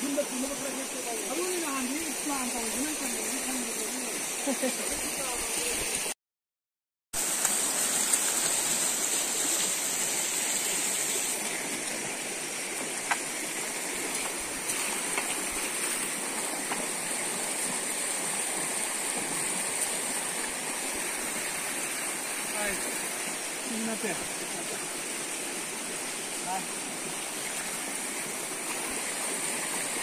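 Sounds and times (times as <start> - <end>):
stream rushing: 0.0 - 6.2, 7.2 - 30.0.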